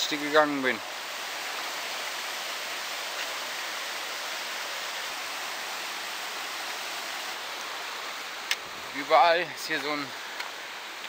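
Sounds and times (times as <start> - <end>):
river babbling over stones: 0.0 - 11.0.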